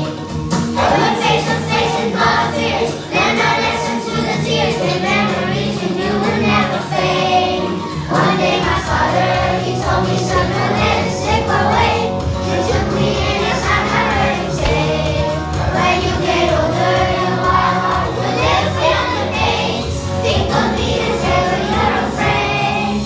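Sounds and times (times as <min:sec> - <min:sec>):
group of voices singing: 0:00.0 - 0:23.0
instrumental backing music: 0:00.0 - 0:23.0.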